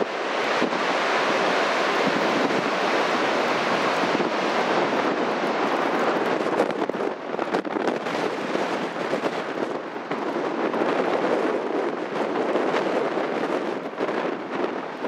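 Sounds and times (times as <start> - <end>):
surf breaking on beach: 0.0 - 15.0
wind gusts on microphone: 0.0 - 15.0.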